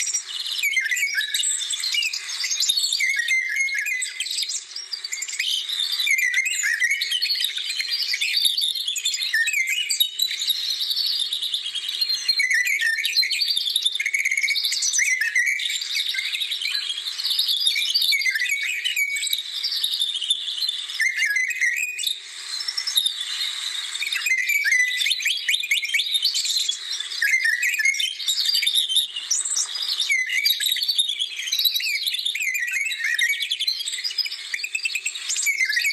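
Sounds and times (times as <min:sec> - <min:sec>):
birds singing: 0:00.0 - 0:35.9.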